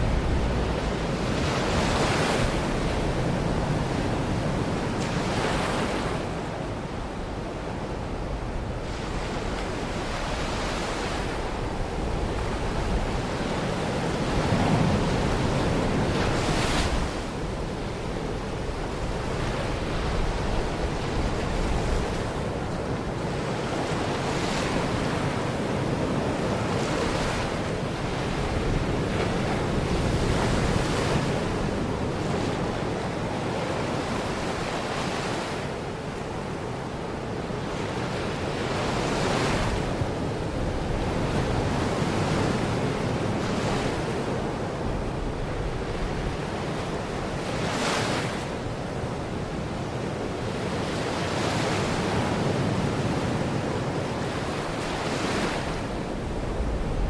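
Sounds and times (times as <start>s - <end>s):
wind on microphone: 0.0s - 35.6s, 38.4s - 57.0s
waves breaking on a beach: 0.0s - 57.0s.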